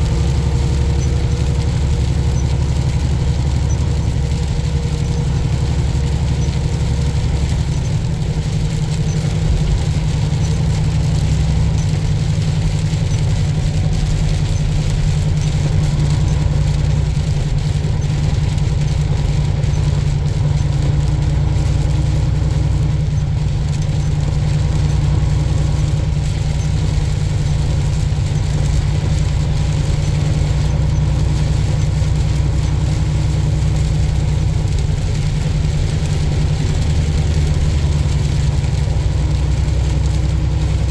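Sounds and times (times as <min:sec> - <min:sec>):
road noise: 0:00.0 - 0:40.9
truck diesel engine running: 0:00.0 - 0:40.9.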